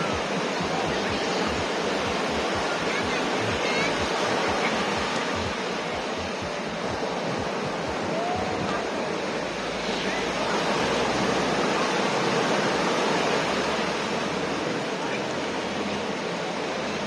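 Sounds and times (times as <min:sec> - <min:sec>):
ocean surf washing onto beach: 0:00.0 - 0:17.0.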